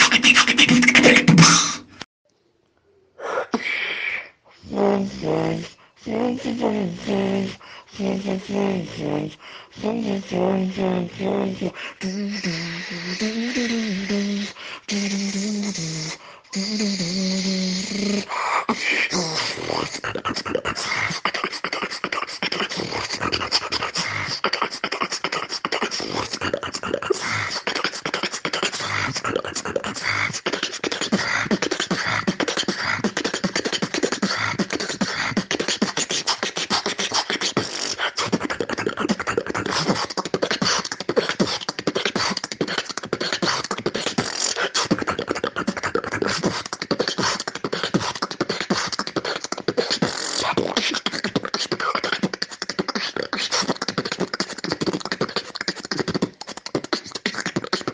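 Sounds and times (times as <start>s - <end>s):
person beatboxing: 0.0s - 2.1s, 3.2s - 57.9s.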